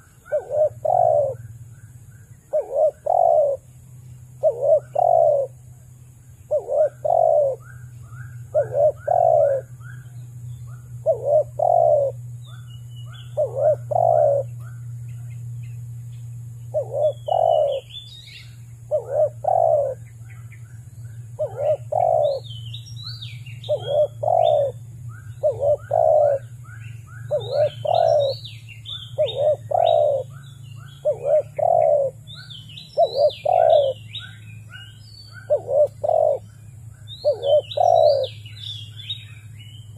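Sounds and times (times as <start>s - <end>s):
dove cooing: 0.0s - 15.3s, 16.7s - 20.5s, 21.1s - 39.6s
small birds chirping: 0.0s - 39.9s.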